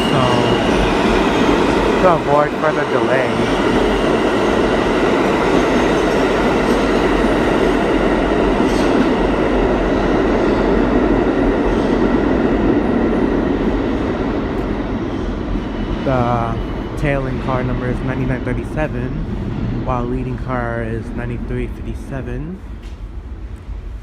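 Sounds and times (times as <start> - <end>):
subway train wheels rumbling on rails: 0.0 - 24.0.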